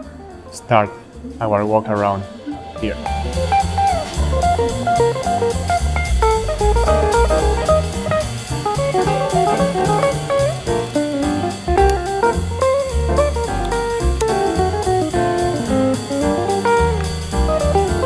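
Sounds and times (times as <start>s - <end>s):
guitar music with drums: 0.0s - 18.0s.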